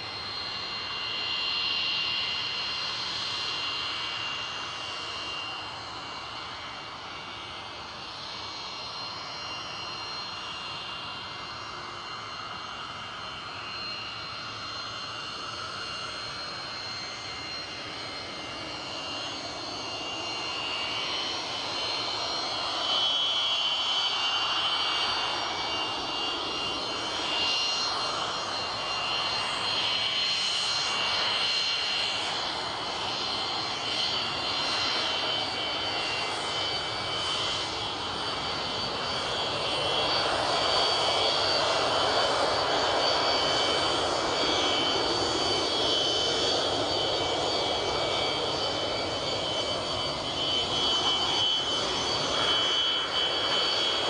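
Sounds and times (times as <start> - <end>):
jet engine whining: 0.0 - 54.0.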